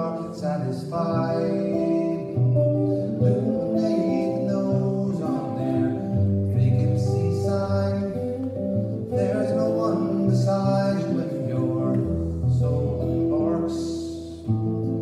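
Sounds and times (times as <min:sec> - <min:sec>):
man singing: 0:00.0 - 0:14.6
guitar strummed chords: 0:00.0 - 0:15.0.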